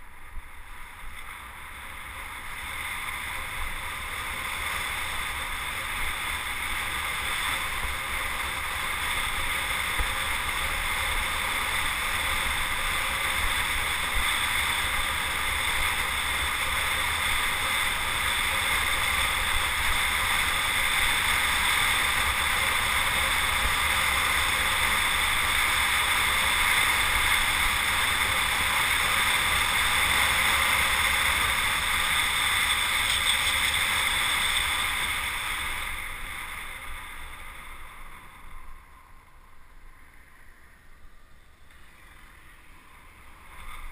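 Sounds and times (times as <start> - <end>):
low road rumble: 0.0 - 43.9.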